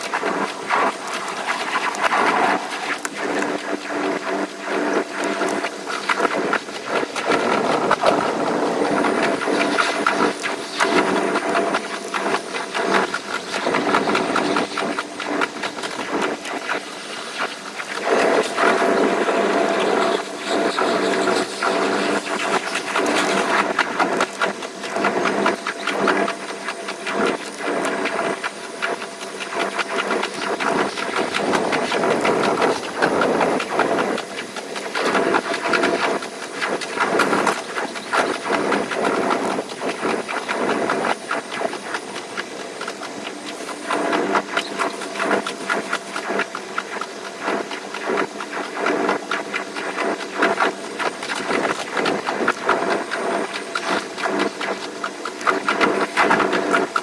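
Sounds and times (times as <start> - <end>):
electric train running hiss and rumble: 0.0 - 57.0
rapid irregular clicks: 0.0 - 57.0.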